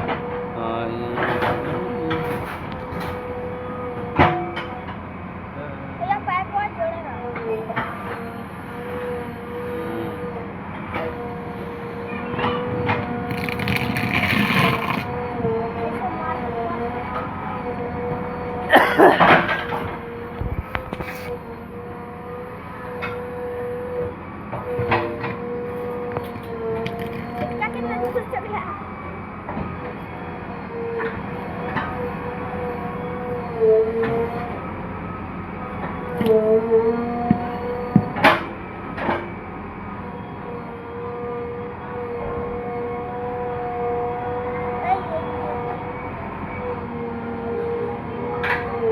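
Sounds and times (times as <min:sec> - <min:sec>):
backhoe engine whining: 0:06.7 - 0:48.9.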